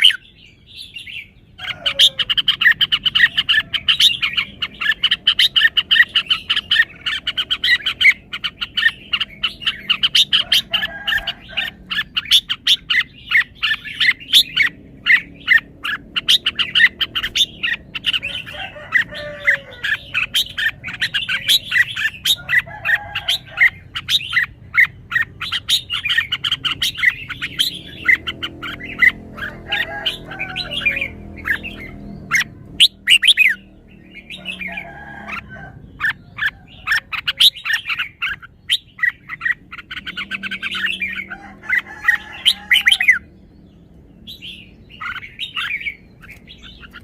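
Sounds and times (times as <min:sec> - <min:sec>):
bird chirping song: 0:00.0 - 0:47.0.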